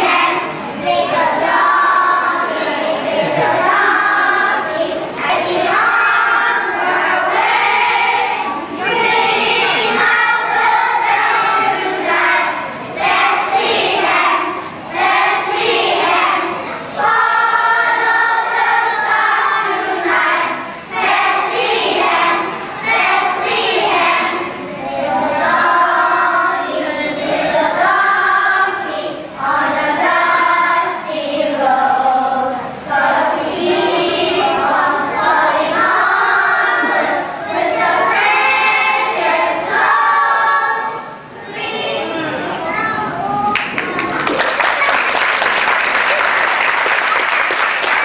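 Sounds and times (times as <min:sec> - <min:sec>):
children's choir singing: 0:00.0 - 0:48.0.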